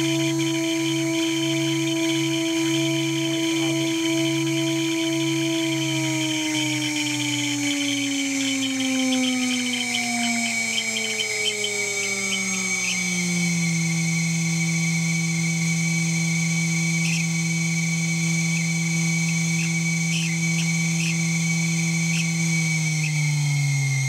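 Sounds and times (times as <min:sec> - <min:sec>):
router spindle whine: 0:00.0 - 0:24.0
high squeal with chirps: 0:00.2 - 0:15.2, 0:16.0 - 0:24.0.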